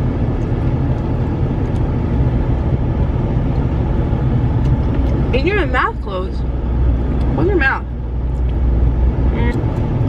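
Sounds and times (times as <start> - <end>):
low rumble inside car cabin: 0.0 - 10.0.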